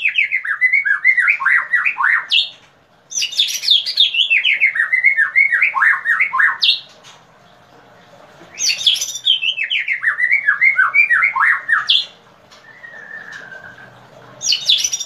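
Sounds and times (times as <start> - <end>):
bird song: 0.0 - 6.9, 8.5 - 15.0.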